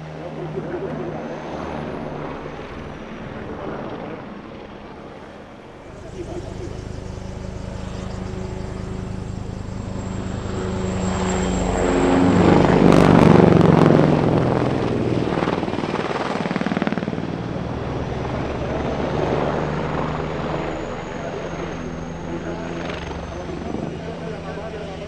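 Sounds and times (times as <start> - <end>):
helicopter rotor chop: 0.0 - 25.0
high turbine whine: 0.0 - 25.0.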